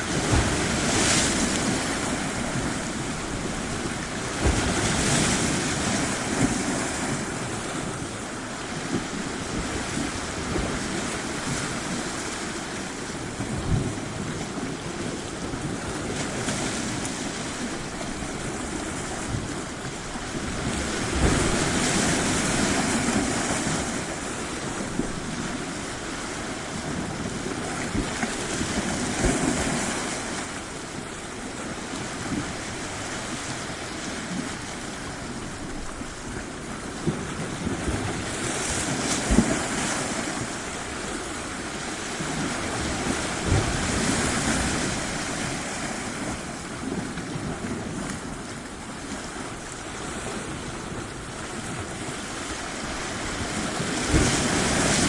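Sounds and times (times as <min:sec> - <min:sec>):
waves washing onto shore: 0:00.0 - 0:55.0
wind buffeting microphone: 0:00.0 - 0:55.0.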